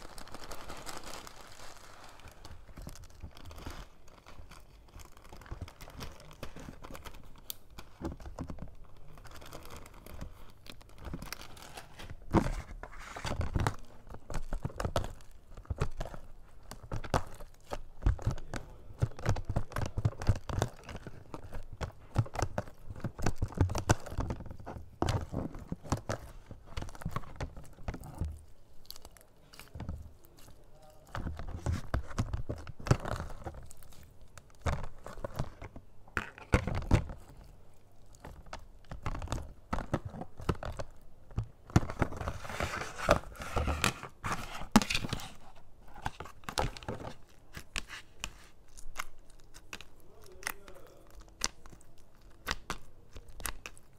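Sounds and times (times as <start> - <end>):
slime crackling as kneaded by hand: 0.0 - 53.9.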